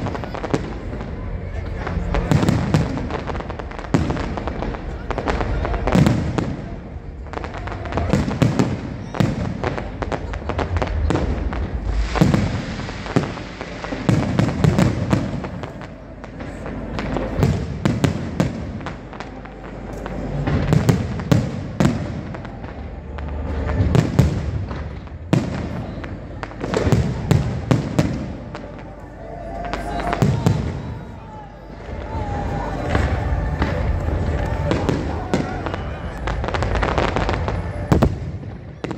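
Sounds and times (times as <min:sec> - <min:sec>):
fireworks bursting with sharp bangs: 0:00.0 - 0:38.9
steady low rumble: 0:00.0 - 0:38.9.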